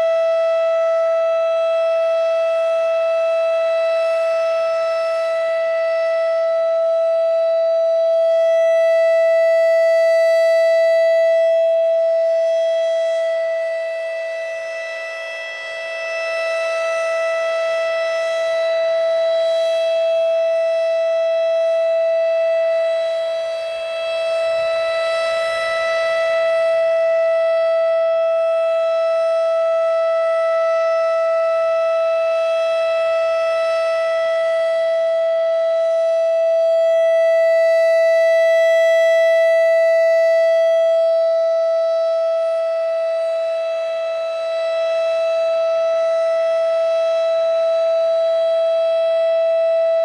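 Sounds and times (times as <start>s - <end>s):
warning siren steady tone: 0.0s - 50.0s.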